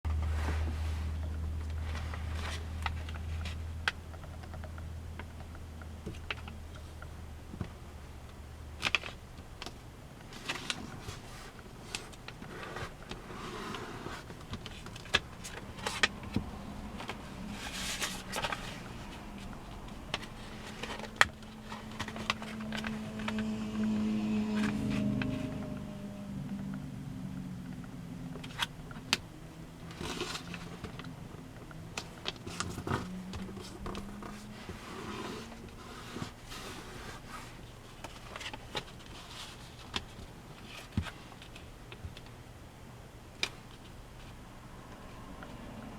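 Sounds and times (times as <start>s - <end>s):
low steady hum: 0.1s - 45.9s.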